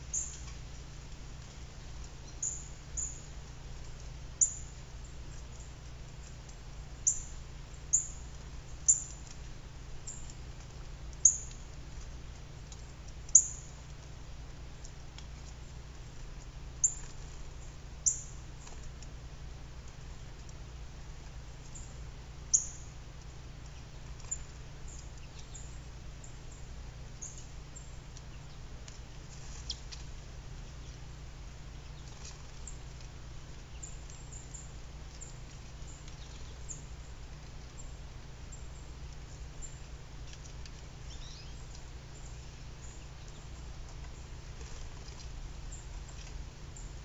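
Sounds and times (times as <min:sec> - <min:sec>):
small birds chipping and calling: 0:00.0 - 0:19.1, 0:19.9 - 0:47.0
steady low hum: 0:00.0 - 0:47.0.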